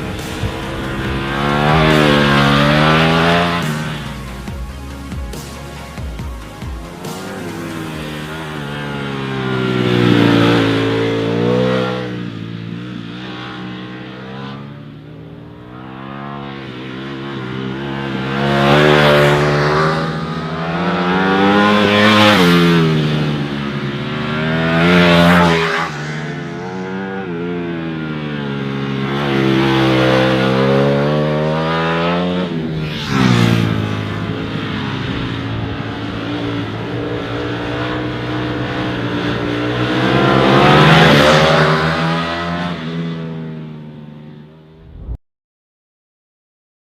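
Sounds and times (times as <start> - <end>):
motorcycle engine revving: 0.0 - 45.2.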